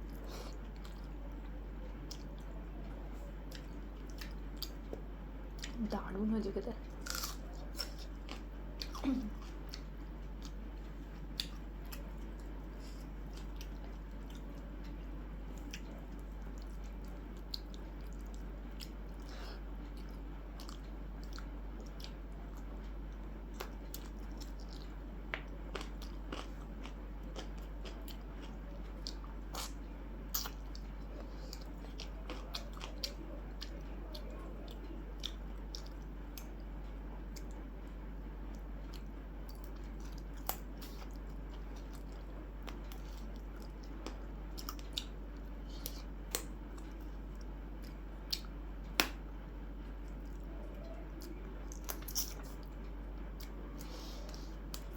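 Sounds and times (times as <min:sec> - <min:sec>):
person chewing food: 0:00.0 - 0:05.8, 0:06.8 - 0:49.2, 0:49.9 - 0:54.9
steady low hum: 0:00.0 - 0:54.9.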